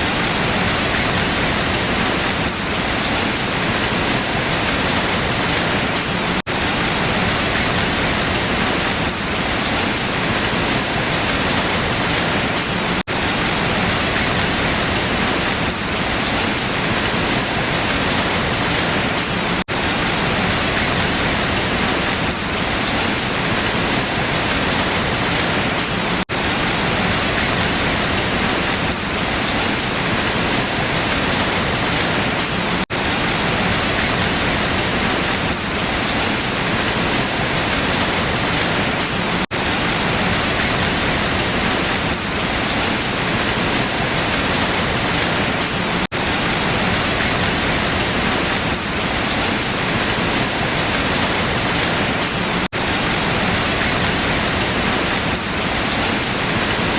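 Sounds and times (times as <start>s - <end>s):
rain falling on leaves: 0.0s - 56.9s.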